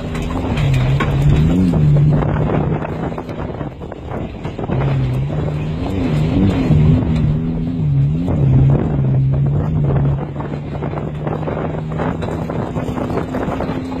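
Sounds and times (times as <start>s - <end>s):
race car engine running: 0.0s - 14.0s.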